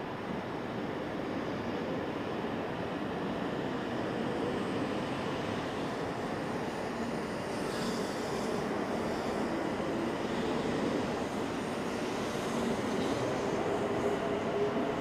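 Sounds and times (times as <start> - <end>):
train rumbling: 2.4 - 15.0.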